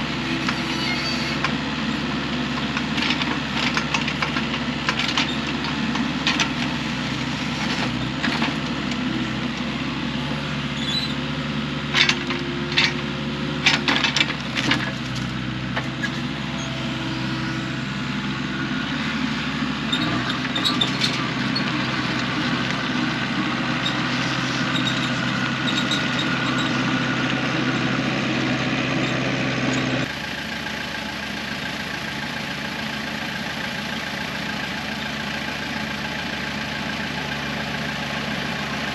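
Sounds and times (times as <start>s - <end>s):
machine engine running: 0.0s - 31.9s.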